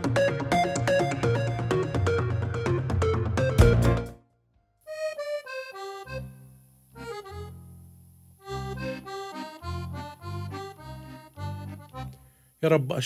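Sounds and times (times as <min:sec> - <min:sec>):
accordion melody: 0:00.0 - 0:12.8
accordion bass and chords: 0:00.0 - 0:12.9.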